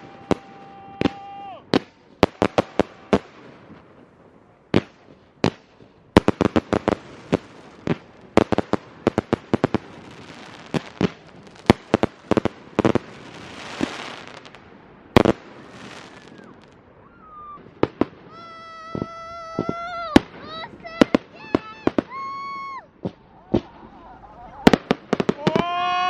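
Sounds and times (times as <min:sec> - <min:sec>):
firework bangs: 0:00.0 - 0:26.0
firework crackling: 0:00.0 - 0:26.0.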